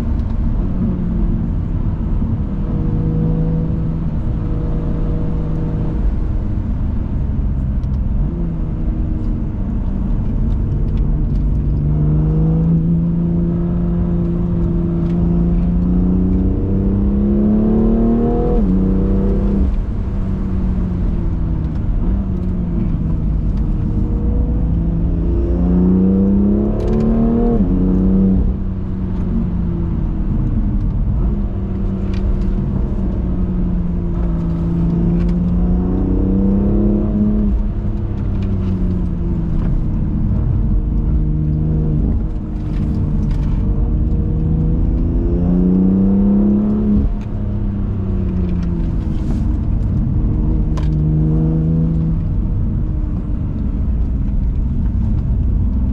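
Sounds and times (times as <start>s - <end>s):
car engine accelerating hard: 0.0s - 55.9s.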